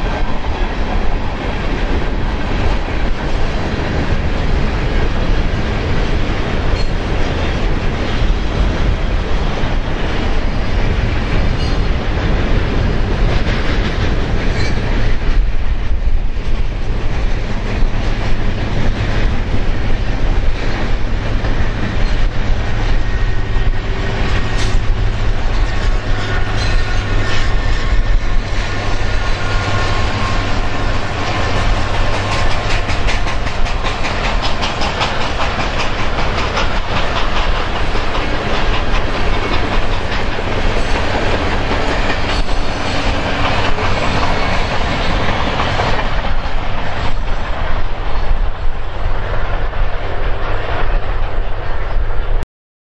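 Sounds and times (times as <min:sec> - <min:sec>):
diesel locomotive passing: 0:00.0 - 0:52.4
freight train wheels clacking: 0:00.0 - 0:52.4
wind buffeting microphone: 0:00.0 - 0:52.4.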